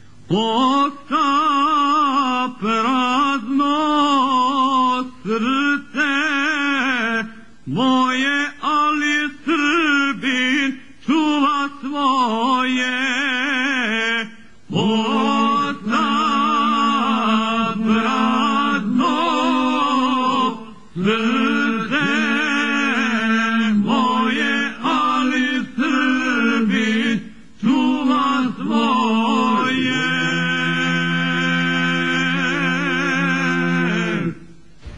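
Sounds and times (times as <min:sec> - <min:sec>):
men singing in harmony: 0:00.3 - 0:34.6.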